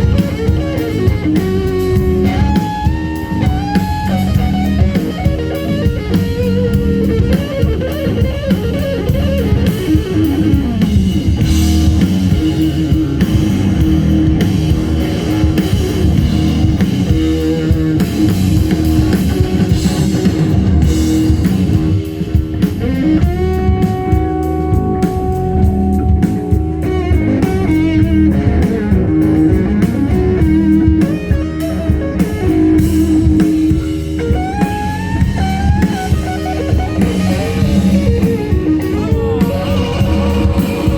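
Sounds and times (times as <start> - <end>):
bass: 0.0 - 40.9
drum kit: 0.0 - 40.9
electric guitar lead: 0.0 - 40.9.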